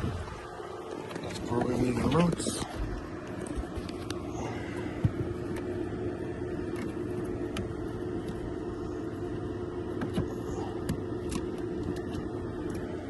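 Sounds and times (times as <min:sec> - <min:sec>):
vehicle humming: 0:00.0 - 0:13.0.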